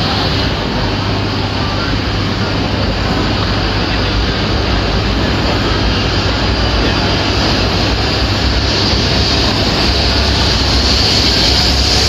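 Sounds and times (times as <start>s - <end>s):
high hiss: 0.0s - 12.0s
train wheels rumbling: 0.0s - 12.0s.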